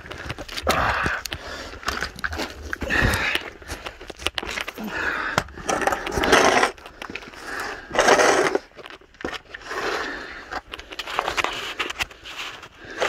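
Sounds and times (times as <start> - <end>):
body scraping over gritty floor: 0.0 - 13.0.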